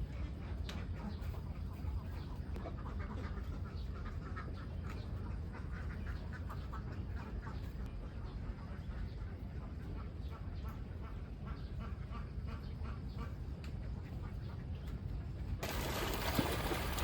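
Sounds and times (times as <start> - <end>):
ducks quacking: 0.0 - 14.7.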